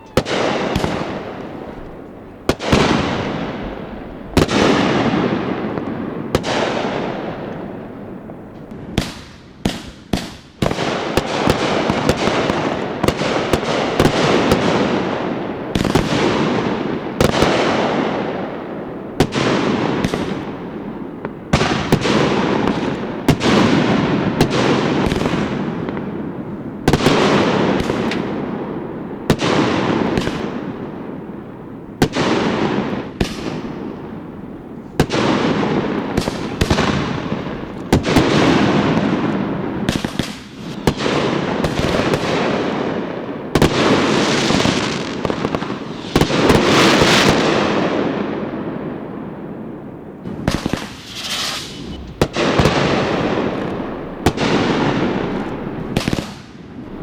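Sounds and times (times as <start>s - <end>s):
firework shells bursting: 0.0s - 15.1s, 15.7s - 28.5s, 33.2s - 47.9s, 50.2s - 57.0s.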